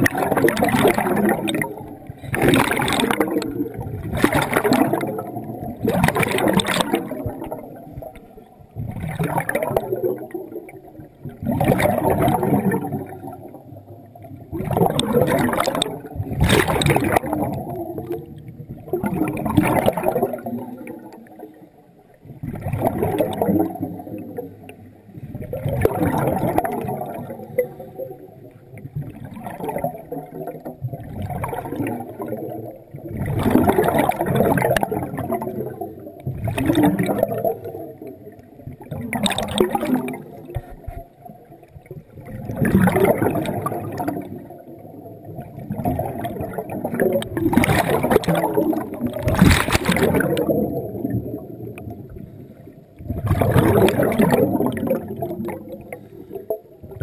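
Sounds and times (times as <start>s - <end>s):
exhaled bubbles gurgling underwater: 0.0s - 57.0s.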